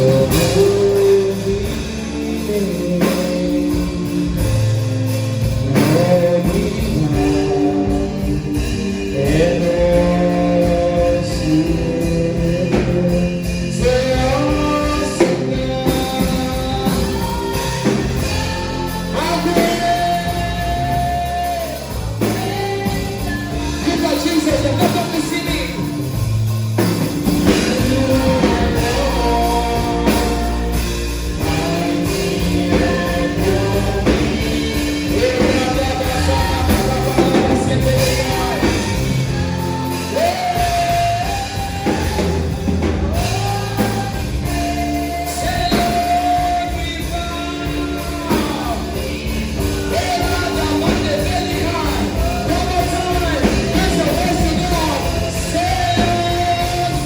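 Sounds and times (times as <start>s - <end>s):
band playing with bass: 0.0s - 57.0s
person singing: 0.0s - 57.0s.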